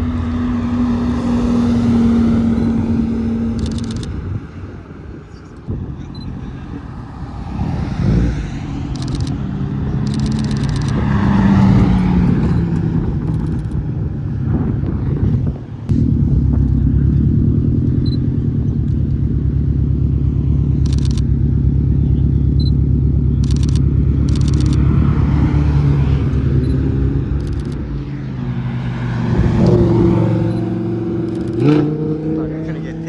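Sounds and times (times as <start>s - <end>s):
car engine rumbling: 0.0s - 33.0s.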